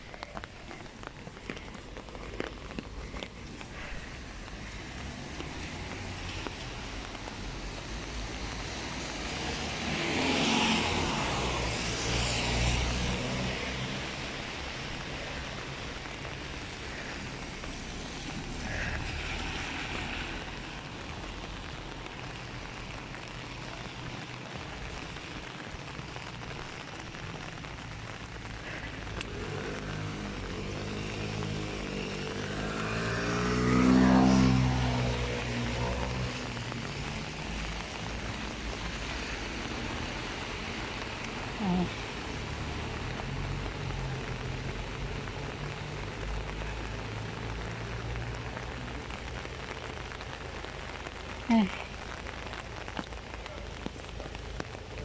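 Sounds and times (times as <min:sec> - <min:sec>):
cars passing on wet street: 0:00.0 - 0:55.0.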